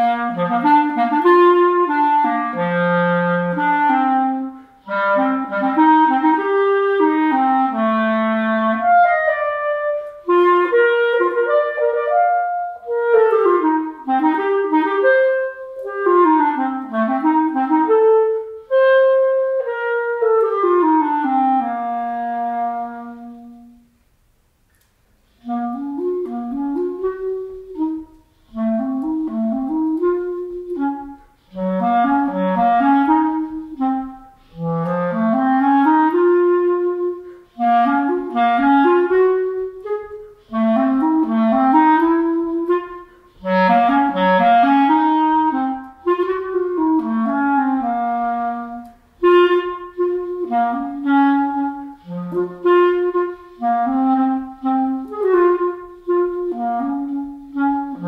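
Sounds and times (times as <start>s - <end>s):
solo clarinet melody: 0.0s - 24.1s, 24.7s - 58.0s.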